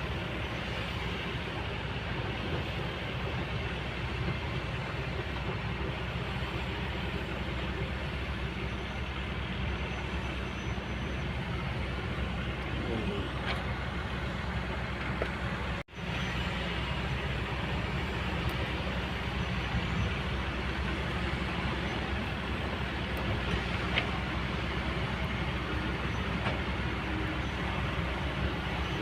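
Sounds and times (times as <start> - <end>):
excavator diesel engine droning: 0.0 - 29.0.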